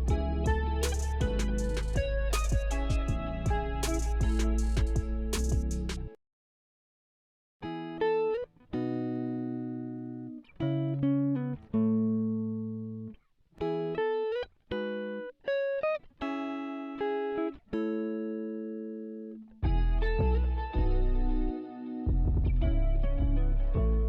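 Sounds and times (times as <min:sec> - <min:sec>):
guitar chords ringing: 0:00.0 - 0:06.0, 0:07.6 - 0:24.0.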